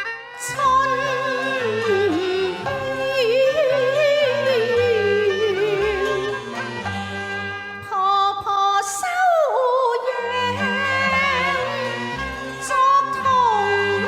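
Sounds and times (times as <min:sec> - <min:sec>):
instrumental accompaniment: 0:00.0 - 0:14.0
ornamented opera singing: 0:00.4 - 0:06.7, 0:08.0 - 0:14.0.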